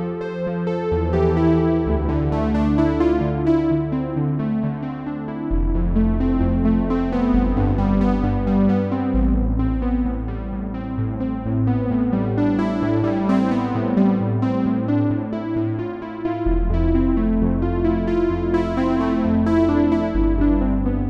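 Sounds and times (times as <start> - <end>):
held synth bass notes: 0.0 - 21.0
synthesizer chords: 0.0 - 21.0.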